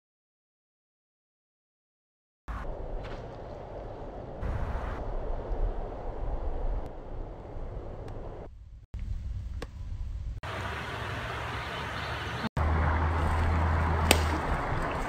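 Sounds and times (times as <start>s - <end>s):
outdoor rush with low rumble: 2.5s - 15.0s.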